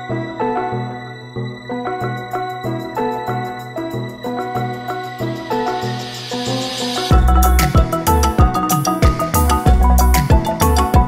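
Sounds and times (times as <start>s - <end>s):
electronic music with bass beat: 2.1s - 11.0s.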